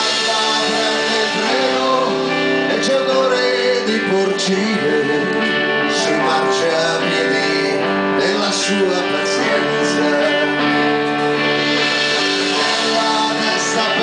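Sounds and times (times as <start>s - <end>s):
live band electric guitars: 0.0s - 14.0s.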